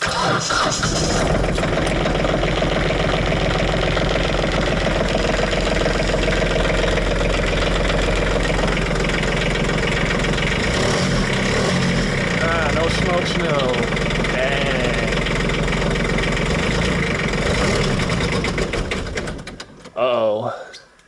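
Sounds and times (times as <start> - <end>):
diesel tractor engine clattering: 0.0 - 19.9.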